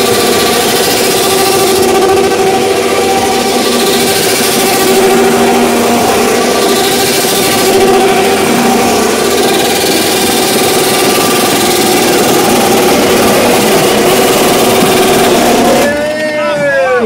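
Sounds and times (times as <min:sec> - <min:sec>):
motorcycle engine steady pitch: 0:00.0 - 0:16.6.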